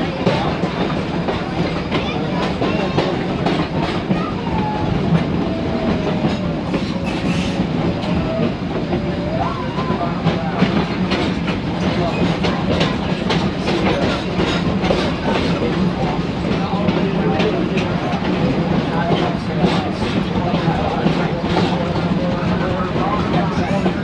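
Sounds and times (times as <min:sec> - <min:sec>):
train rumbling: 0:00.0 - 0:24.0
wheels clickety-clack over rail joints: 0:00.0 - 0:24.0.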